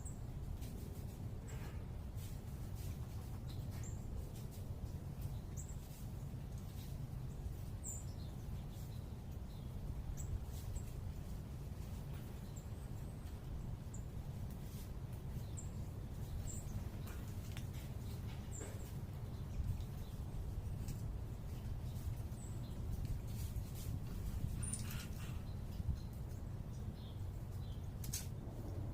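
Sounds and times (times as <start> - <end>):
low urban rumble: 0.0 - 28.9
small birds chip calls: 0.0 - 28.9.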